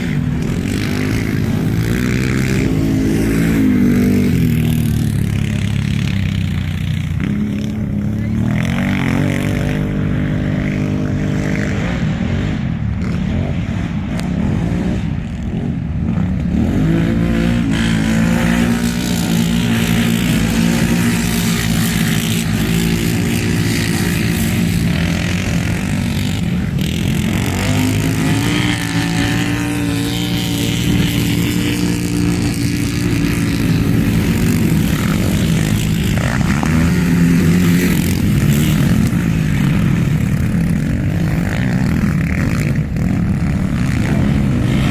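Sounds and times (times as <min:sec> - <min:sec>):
quad racing engines revving: 0:00.0 - 0:44.9.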